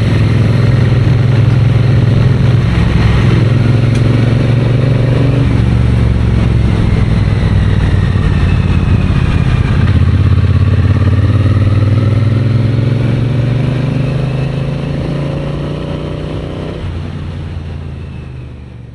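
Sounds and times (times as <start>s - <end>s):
motorcycle engine accelerating: 0.0s - 18.9s.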